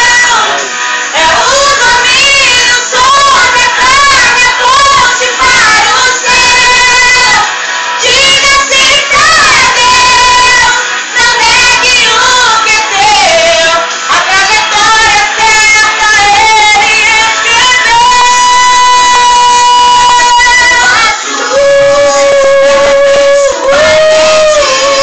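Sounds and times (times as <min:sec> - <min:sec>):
woman and girl singing: 0:00.0 - 0:25.0.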